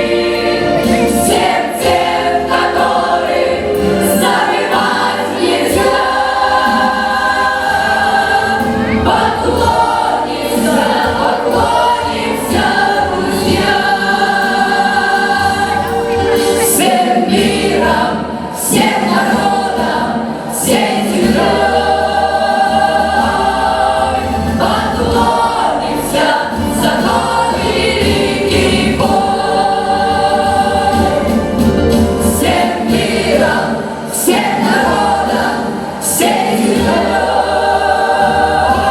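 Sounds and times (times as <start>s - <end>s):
instrumental backing with bass line: 0.0s - 38.9s
vocal ensemble singing in harmony: 0.0s - 38.9s.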